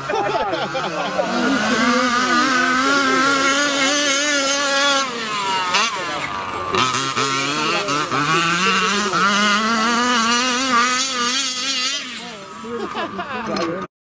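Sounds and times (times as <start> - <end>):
two-stroke engine at high revs: 0.0 - 13.9.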